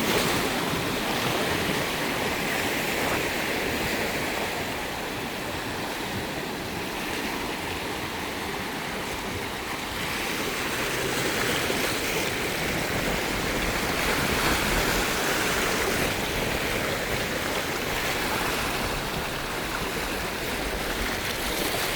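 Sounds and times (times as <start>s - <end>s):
waves breaking on shore: 0.0s - 21.9s.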